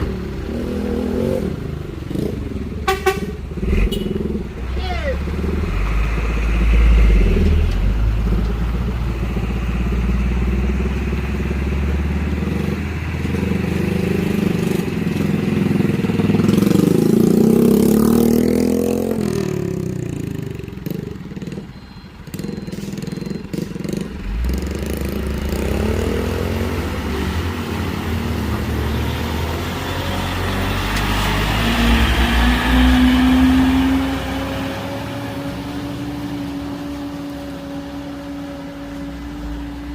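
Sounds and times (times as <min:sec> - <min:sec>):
vehicle engines revving: 0:00.0 - 0:39.9.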